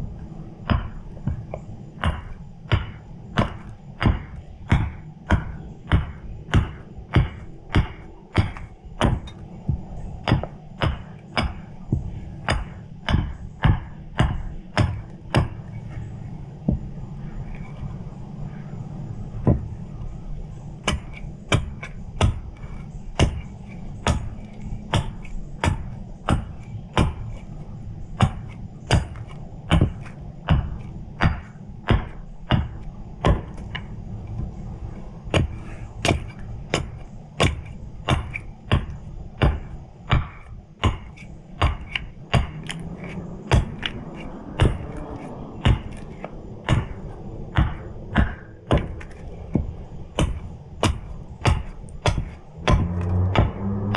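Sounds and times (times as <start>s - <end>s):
axe chopping wood: 0.6s - 16.0s, 20.7s - 34.6s, 35.3s - 53.9s.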